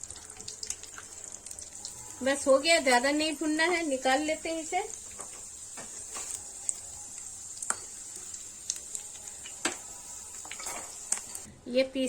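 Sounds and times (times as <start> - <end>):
nuts sizzling in hot fat: 0.0 - 11.5.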